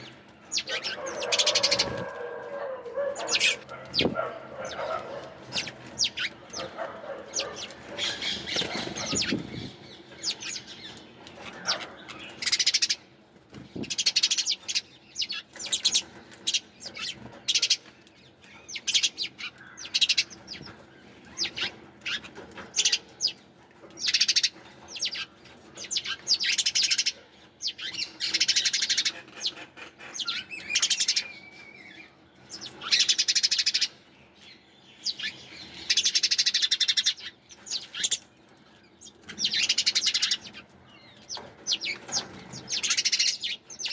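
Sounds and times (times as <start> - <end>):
sparrows chirping: 0.0 - 43.9.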